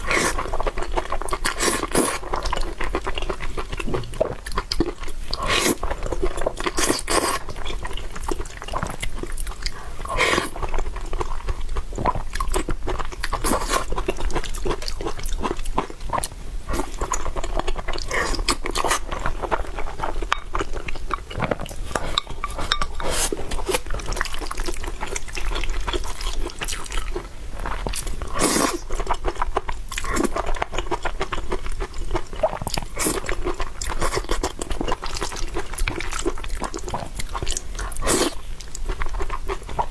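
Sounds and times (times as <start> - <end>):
wet chewing and slurping: 0.0 - 39.9.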